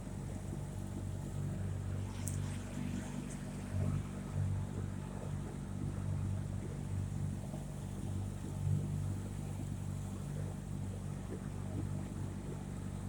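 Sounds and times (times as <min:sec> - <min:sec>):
small boat motor running: 0:00.0 - 0:13.0.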